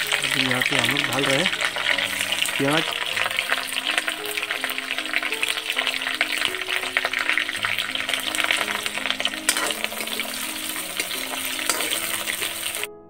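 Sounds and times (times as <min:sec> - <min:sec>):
metal ladle stirring: 0:00.0 - 0:12.9
onions sizzling in hot oil: 0:00.0 - 0:12.9.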